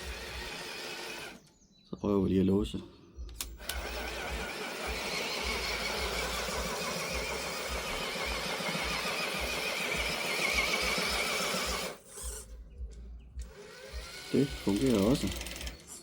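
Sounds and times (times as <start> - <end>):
electric motor whining: 0.0 - 1.4, 3.5 - 12.6, 13.3 - 16.0.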